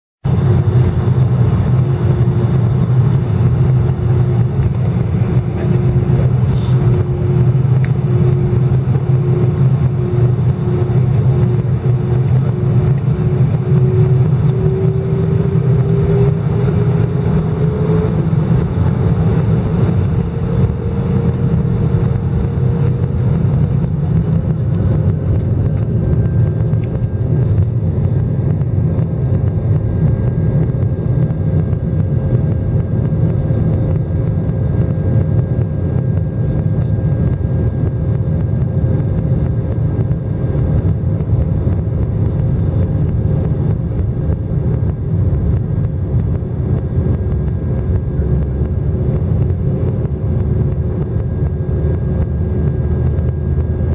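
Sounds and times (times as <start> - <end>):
jet engines rumbling: 0.2 - 53.9.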